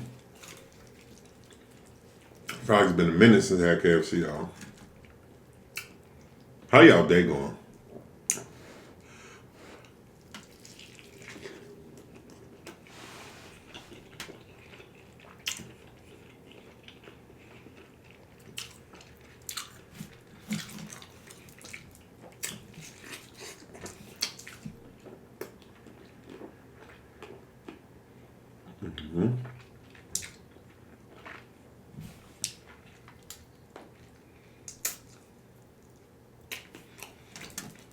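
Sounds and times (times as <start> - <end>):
wet chewing and mouth sounds: 0.0 - 2.7, 4.5 - 6.5, 9.8 - 27.9, 29.4 - 37.9.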